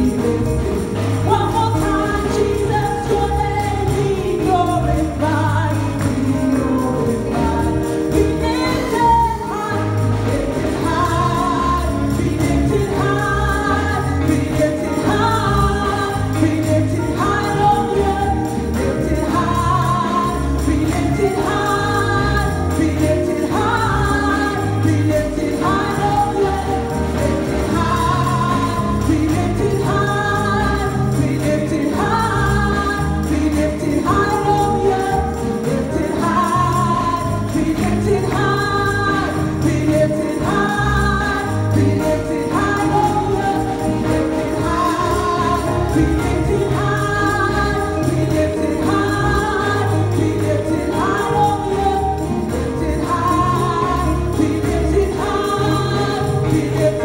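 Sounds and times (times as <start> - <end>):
gospel music with choir: 0.0 - 57.0.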